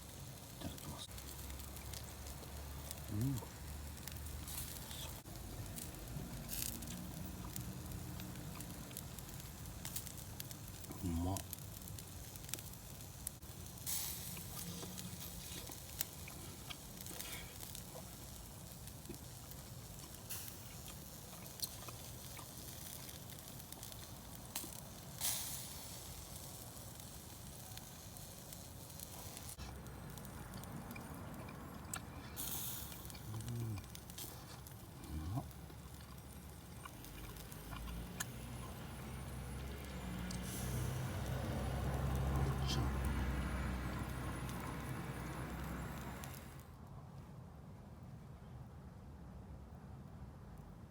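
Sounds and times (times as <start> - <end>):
fire popping: 0.0 - 46.7
campfire crackling: 0.0 - 46.8.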